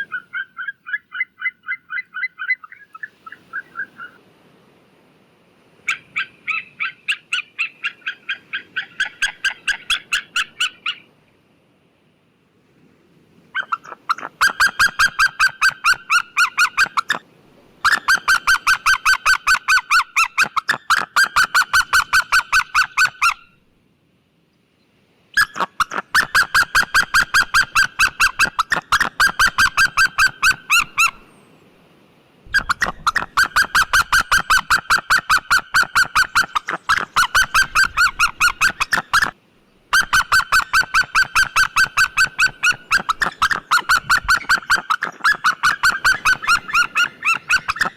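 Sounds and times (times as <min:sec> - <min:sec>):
eagle calling: 0:00.0 - 0:04.2, 0:05.8 - 0:11.1, 0:13.5 - 0:17.2, 0:17.8 - 0:23.6, 0:25.4 - 0:31.4, 0:32.5 - 0:47.9.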